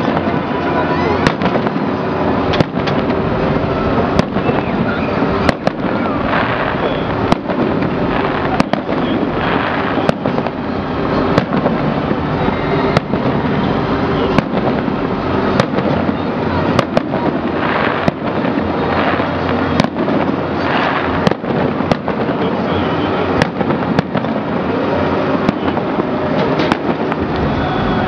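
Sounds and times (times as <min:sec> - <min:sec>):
firework crackling: 0:00.0 - 0:28.0
firework shells bursting: 0:01.2 - 0:28.0.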